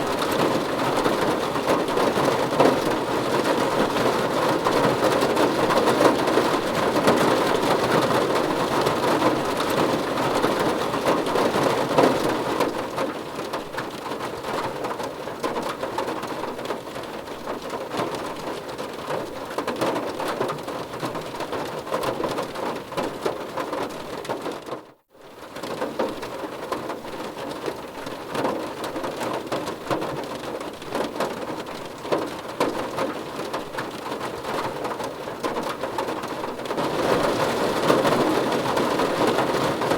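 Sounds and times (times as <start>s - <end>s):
rain on car roof and glass: 0.0s - 39.9s.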